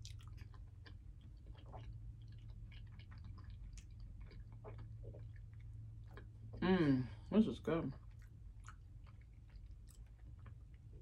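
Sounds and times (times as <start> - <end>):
person chewing food: 0.0 - 6.6, 8.0 - 11.0
steady low hum: 0.0 - 11.0.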